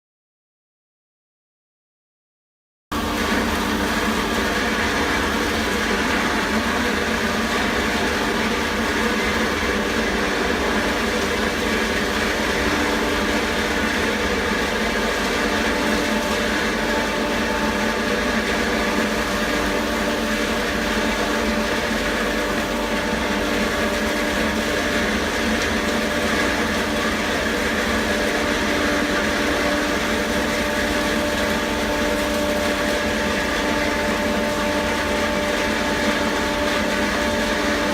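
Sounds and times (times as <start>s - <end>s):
blower machine motor drone: 2.9s - 37.9s.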